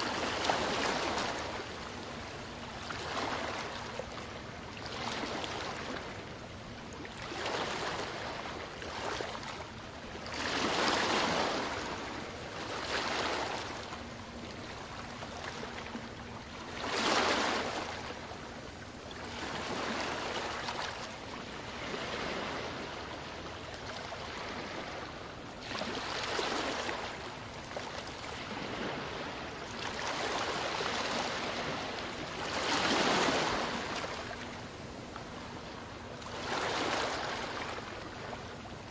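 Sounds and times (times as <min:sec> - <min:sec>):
small waves washing onto sand: 0:00.0 - 0:06.3, 0:07.1 - 0:18.5, 0:19.2 - 0:38.9.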